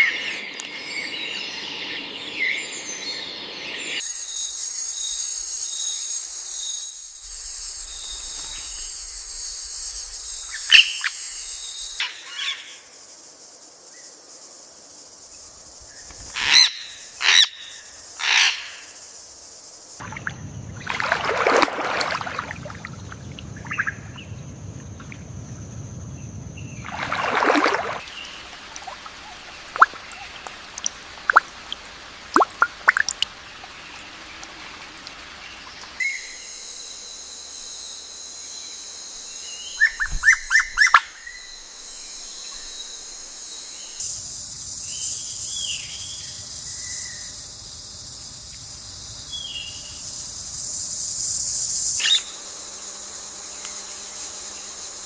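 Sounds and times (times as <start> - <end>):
high insect-like buzz: 0.0 - 55.0.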